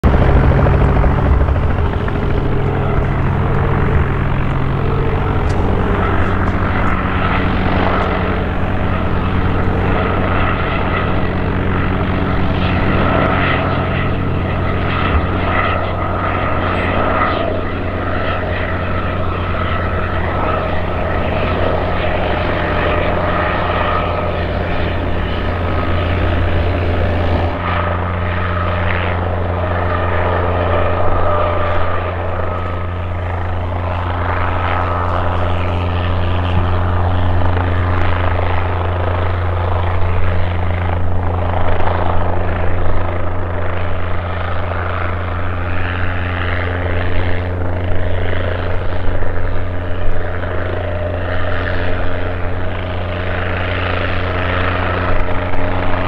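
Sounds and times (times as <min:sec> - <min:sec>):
helicopter hovering drone: 0:00.0 - 0:56.0
high steady whine: 0:00.0 - 0:56.0.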